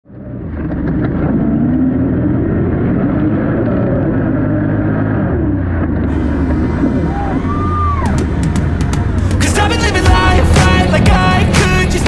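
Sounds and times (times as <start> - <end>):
atv engine running: 0.1 - 12.0.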